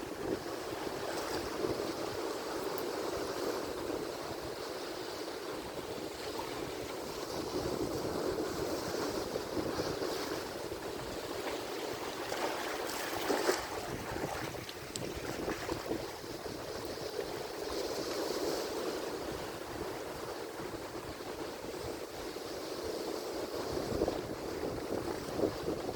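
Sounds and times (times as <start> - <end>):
waves breaking and washing ashore: 0.0 - 25.9.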